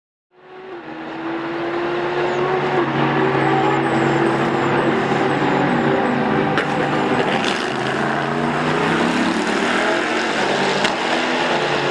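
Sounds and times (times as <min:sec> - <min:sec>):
racing engine running: 0:00.4 - 0:11.9.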